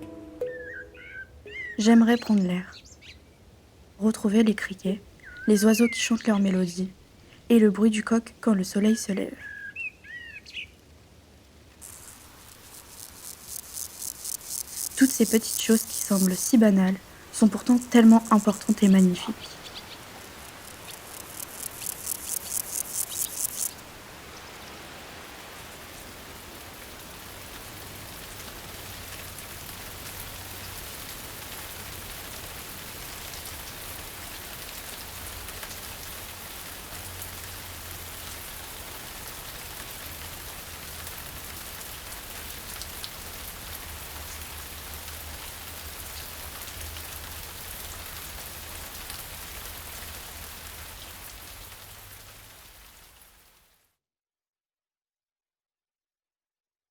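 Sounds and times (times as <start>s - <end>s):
steady rain falling: 1.0s - 53.9s.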